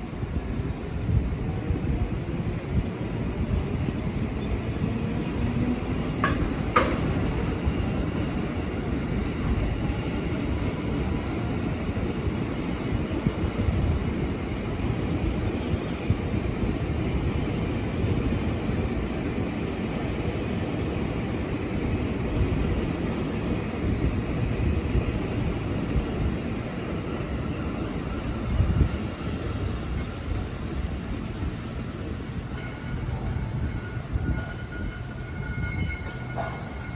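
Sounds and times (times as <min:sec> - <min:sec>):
electric train rumbling: 0:00.0 - 0:36.9.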